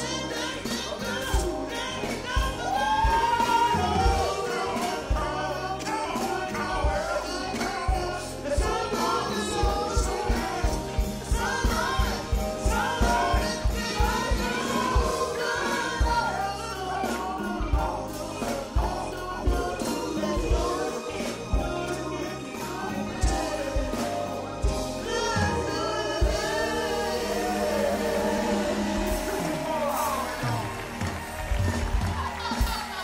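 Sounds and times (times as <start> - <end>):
people singing soul song: 0.0 - 33.0
drum beat: 0.6 - 33.0.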